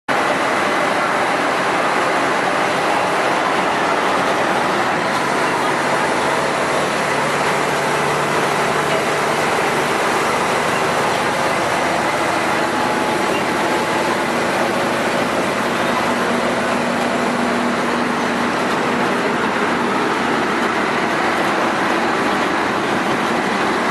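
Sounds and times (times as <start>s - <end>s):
bus diesel engine droning: 0.1s - 23.9s
road noise: 0.1s - 23.9s.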